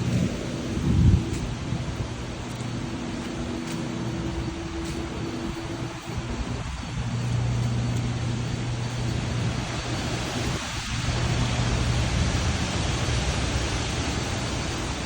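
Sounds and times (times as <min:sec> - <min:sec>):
generator running: 0:00.0 - 0:15.0.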